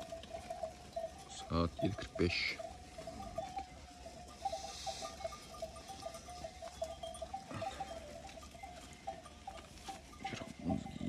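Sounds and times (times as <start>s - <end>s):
livestock bells clinking: 0.0s - 11.0s.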